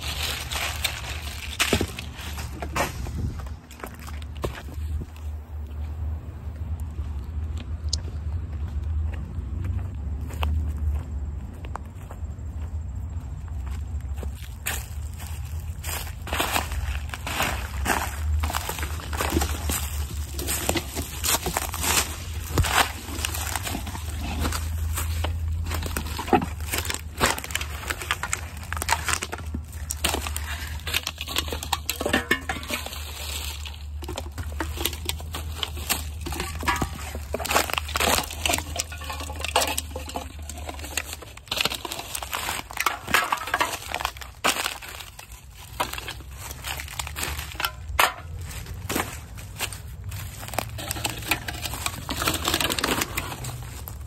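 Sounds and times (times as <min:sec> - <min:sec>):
litter crackling and crinkling: 0:00.0 - 0:07.9, 0:14.1 - 0:54.0.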